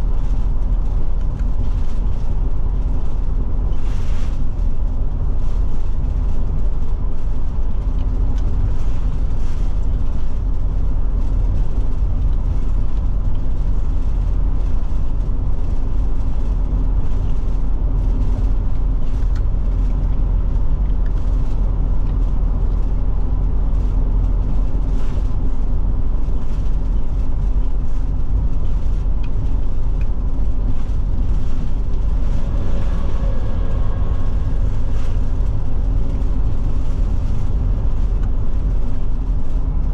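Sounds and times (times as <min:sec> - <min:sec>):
motorhome road rumble: 0:00.0 - 0:39.9.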